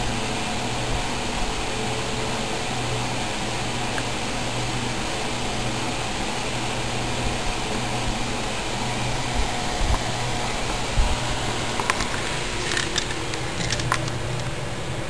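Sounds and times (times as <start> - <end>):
machine hum and hiss: 0.0 - 15.0.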